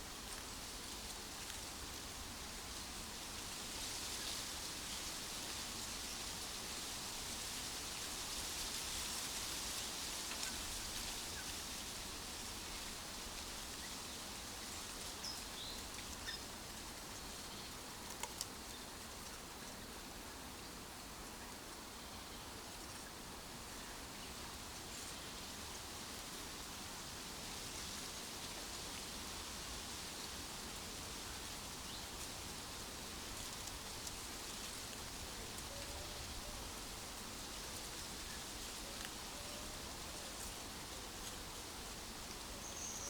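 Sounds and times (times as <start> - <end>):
wind rustling tree leaves: 0.0 - 43.0.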